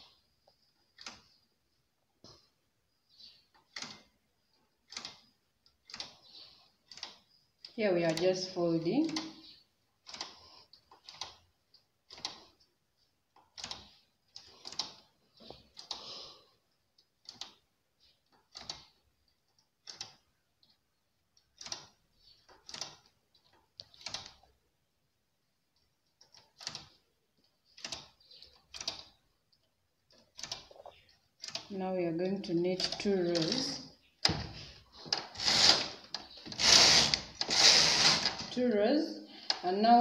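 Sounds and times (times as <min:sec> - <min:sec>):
knitting machine needles clicking: 0:00.0 - 0:01.5, 0:02.2 - 0:24.6, 0:25.7 - 0:38.8.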